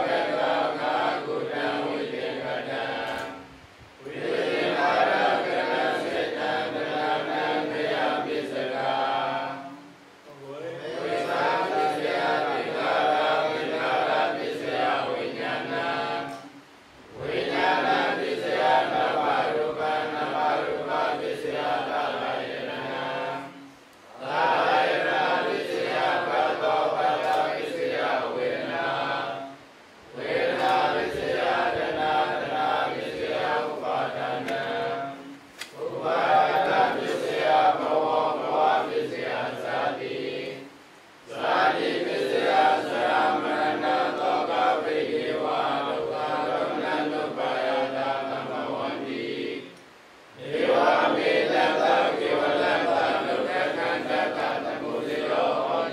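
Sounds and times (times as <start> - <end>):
monks chanting in unison: 0.0 - 55.9.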